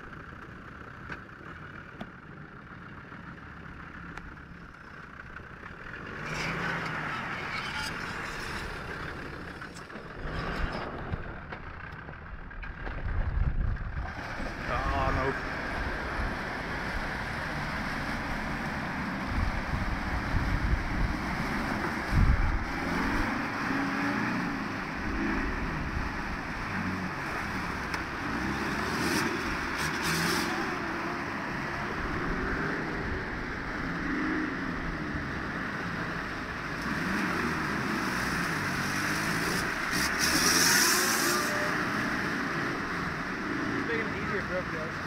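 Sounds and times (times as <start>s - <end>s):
off-road vehicle engine revving: 5.1s - 45.0s.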